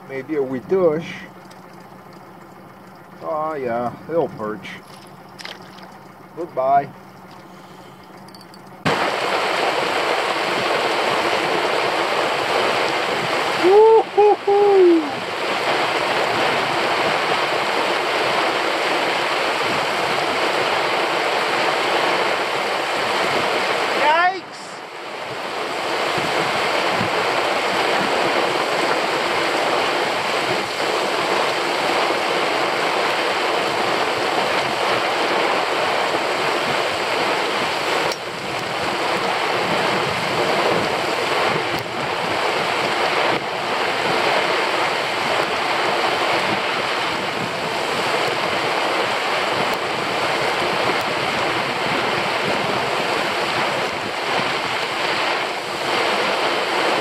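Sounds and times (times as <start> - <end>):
heavy rain on water: 0.0 - 57.0
rain on an umbrella: 8.8 - 57.0.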